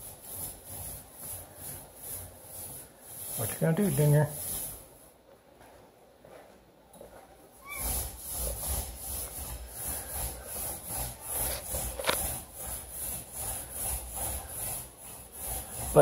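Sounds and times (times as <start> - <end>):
paintbrush rubbing on wall: 0.0 - 5.3, 7.5 - 16.0.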